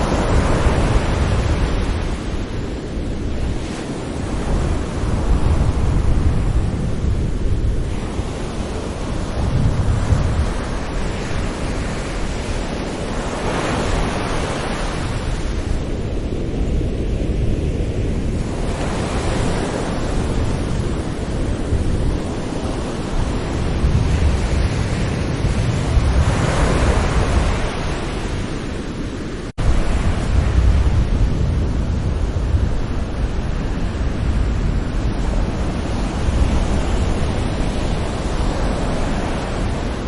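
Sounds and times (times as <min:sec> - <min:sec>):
sea waves washing onto shore: 0:00.0 - 0:40.0.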